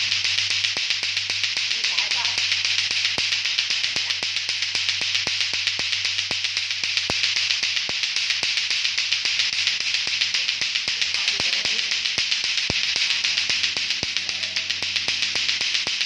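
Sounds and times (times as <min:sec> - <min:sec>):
plastic clacker balls clacking: 0:00.0 - 0:16.0.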